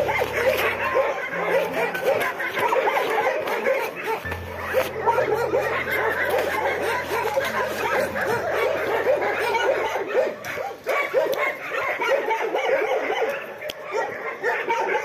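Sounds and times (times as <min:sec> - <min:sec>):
dogs whining and yelping: 0:00.0 - 0:15.0.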